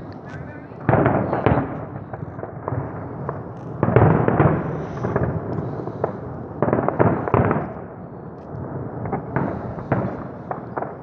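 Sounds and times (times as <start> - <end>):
fireworks banging: 0.0 - 11.0
fireworks crackling: 0.0 - 11.0.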